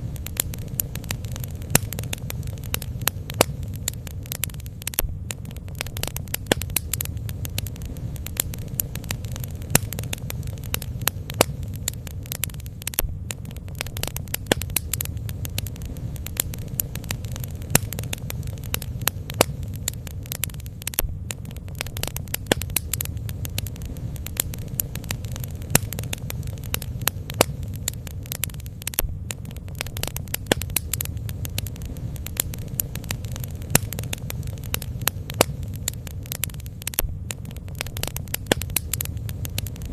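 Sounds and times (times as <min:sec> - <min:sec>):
bonfire wood crackling and popping: 0:00.0 - 0:39.9
low steady fire rumble: 0:00.0 - 0:39.9.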